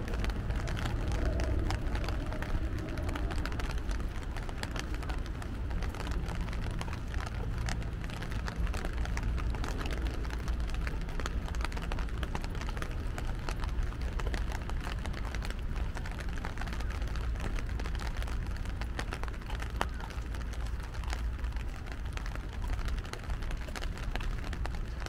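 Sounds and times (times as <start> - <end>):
city traffic hum: 0.0 - 25.0
rain pattering: 0.0 - 25.0.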